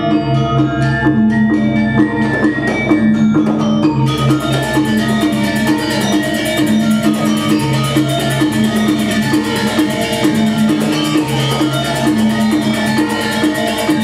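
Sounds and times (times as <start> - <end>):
fast bright metallophone strokes: 0.0 - 14.0
gamelan playing: 0.0 - 14.0.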